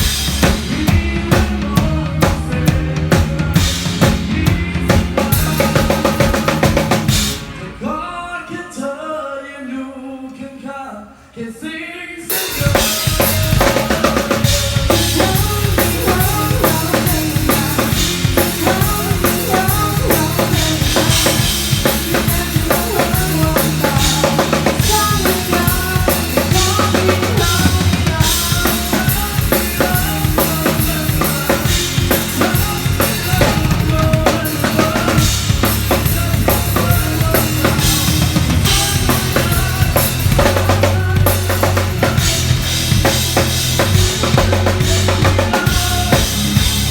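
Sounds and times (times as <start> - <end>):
drum kit groove: 0.0 - 7.8, 12.3 - 46.9
bass: 0.0 - 8.3, 12.3 - 46.9.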